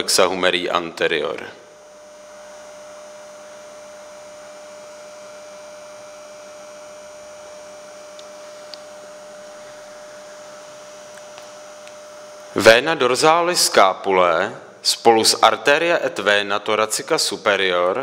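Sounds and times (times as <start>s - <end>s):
electrical hum with hiss: 0.0s - 18.0s.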